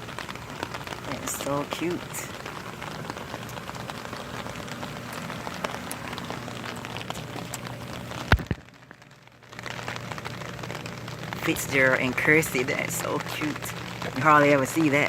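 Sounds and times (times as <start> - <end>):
rain on hard surfaces: 0.0 - 15.0.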